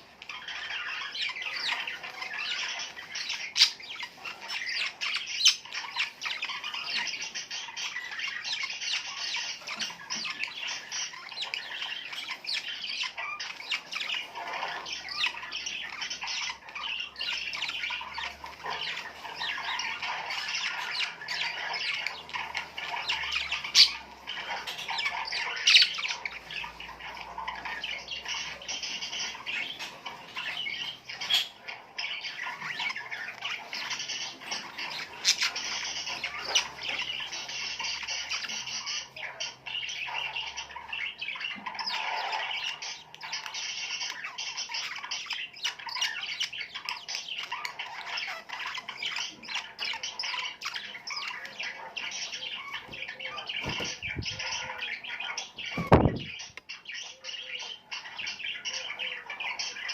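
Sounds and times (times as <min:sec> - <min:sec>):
flock of small birds chattering: 0:00.0 - 0:59.9.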